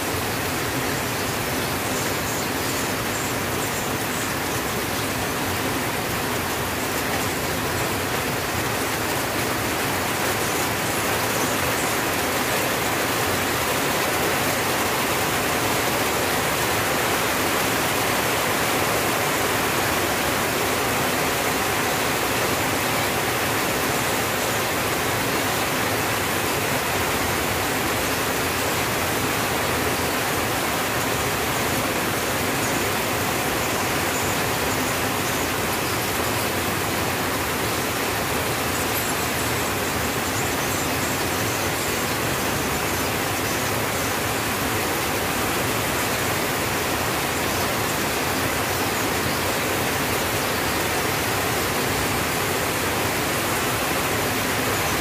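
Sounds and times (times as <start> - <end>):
rain on a tin roof: 0.0 - 55.0.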